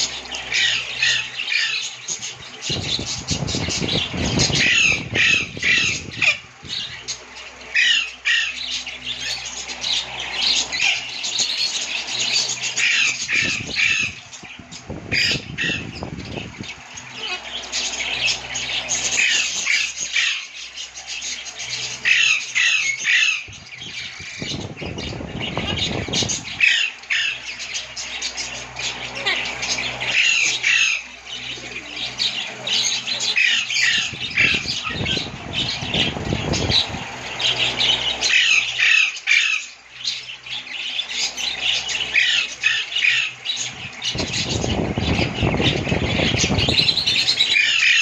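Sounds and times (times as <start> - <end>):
lovebirds squawking and chirping: 0.0 - 48.0.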